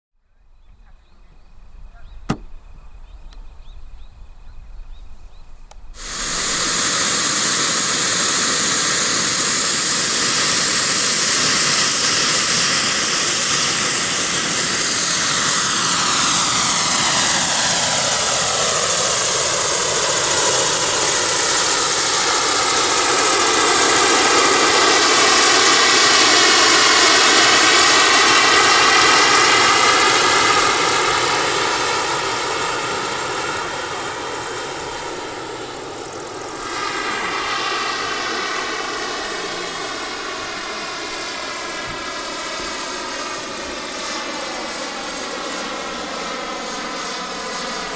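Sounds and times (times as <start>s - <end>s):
model helicopter turbine whine: 0.2s - 47.9s.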